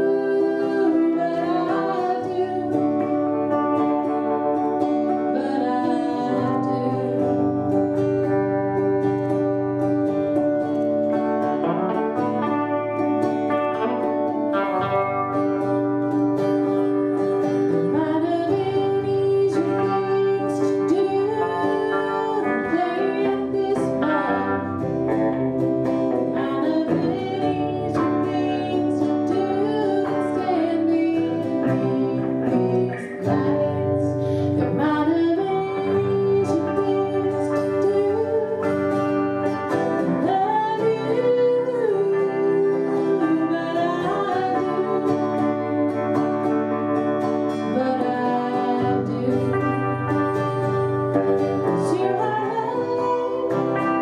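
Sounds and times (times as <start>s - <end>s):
acoustic guitar strumming: 0.0s - 54.0s
electric guitar playing: 0.0s - 54.0s
woman singing: 0.0s - 54.0s.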